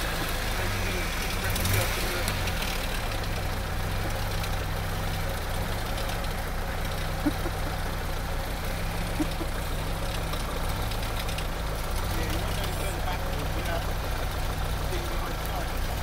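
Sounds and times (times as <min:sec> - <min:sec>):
diesel engine at low revs: 0:00.0 - 0:16.0.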